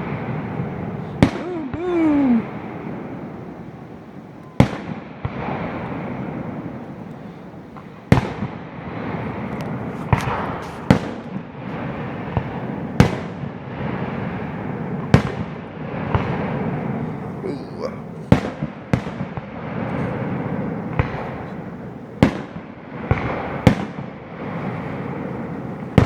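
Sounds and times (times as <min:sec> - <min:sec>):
fireworks bursting with rumble: 0:00.0 - 0:26.0.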